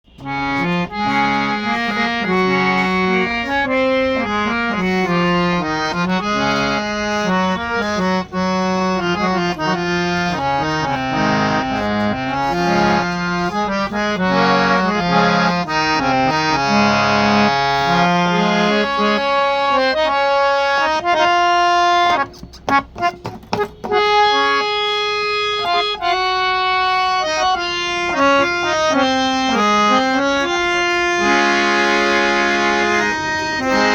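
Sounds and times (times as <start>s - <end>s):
harmonium low chord notes: 0.0s - 33.9s
harmonium melody: 0.0s - 33.9s.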